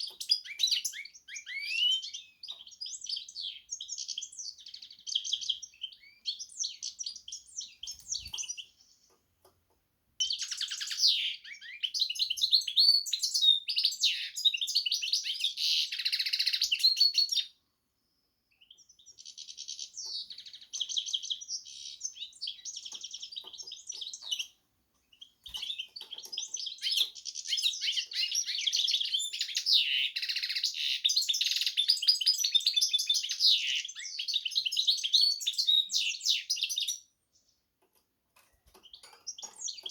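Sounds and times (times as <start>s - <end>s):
finch twittering and trilling: 0.0s - 9.2s, 10.2s - 17.5s, 18.7s - 37.1s, 38.7s - 39.9s.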